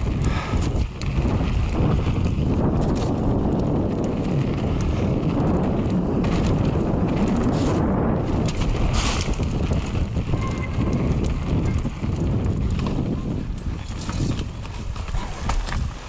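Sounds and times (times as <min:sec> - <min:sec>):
bike knocks and rattles: 0:00.0 - 0:16.0
bike tyres rolling on gravel: 0:00.0 - 0:16.0
wind buffeting microphone: 0:00.0 - 0:16.0.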